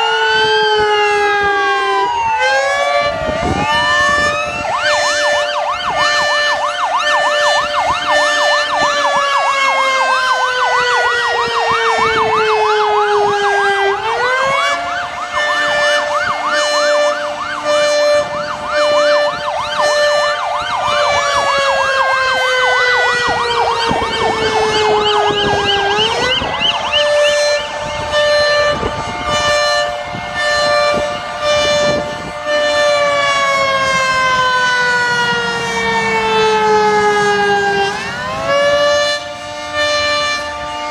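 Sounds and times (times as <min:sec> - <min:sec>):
wailing siren: 0:00.0 - 0:40.9
yelping siren: 0:00.0 - 0:40.9.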